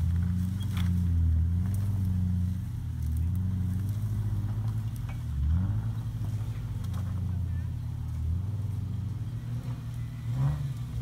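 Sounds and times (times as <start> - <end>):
engine revving: 0.0 - 11.0
engine working at low speed: 0.0 - 11.0.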